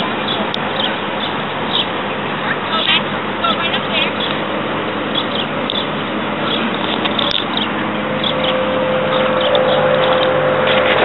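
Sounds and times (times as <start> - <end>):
motor vehicle hum: 0.0 - 11.0
outdoor noise: 0.0 - 11.0.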